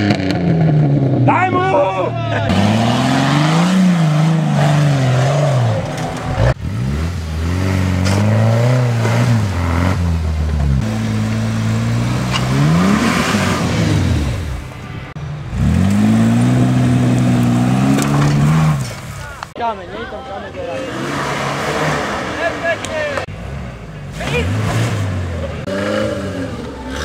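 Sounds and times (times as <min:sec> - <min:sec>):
off-road vehicle engine revving: 0:00.0 - 0:14.8, 0:15.4 - 0:19.2, 0:20.5 - 0:27.0.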